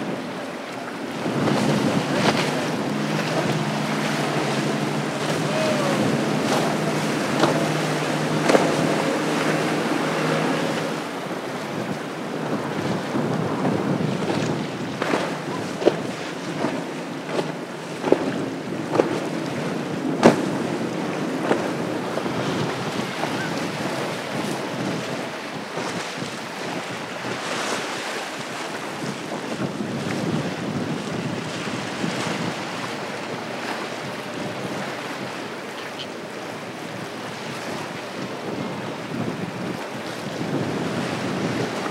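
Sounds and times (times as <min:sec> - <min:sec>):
boat hull slapping on waves: 0:00.0 - 0:41.9
spray and waves washing: 0:00.0 - 0:41.9
wind on the microphone: 0:00.0 - 0:41.9.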